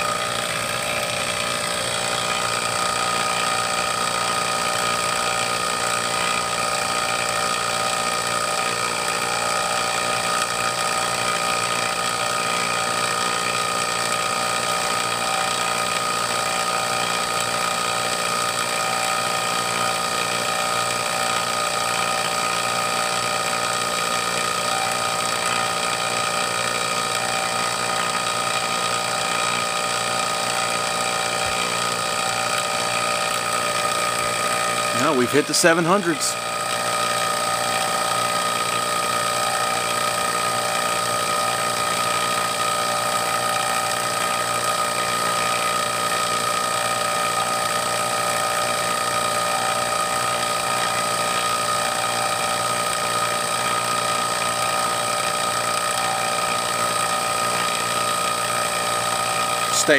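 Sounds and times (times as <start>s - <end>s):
vacuum pump running: 0.0s - 59.9s.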